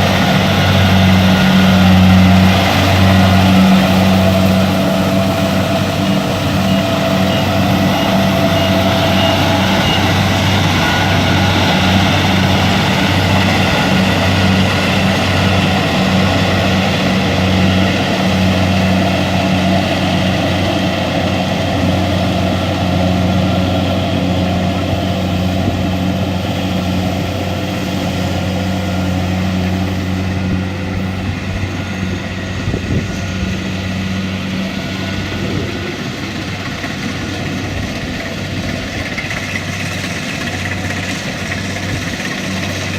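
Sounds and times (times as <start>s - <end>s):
combine harvester diesel engine: 0.0s - 42.9s.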